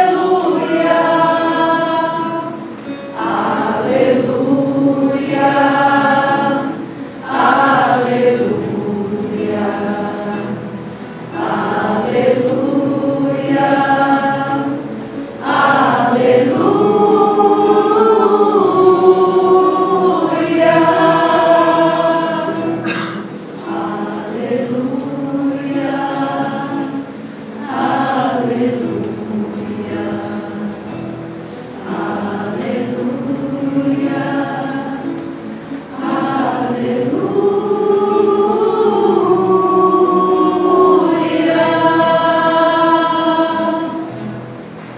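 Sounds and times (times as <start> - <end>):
small choir singing: 0.0 - 44.9.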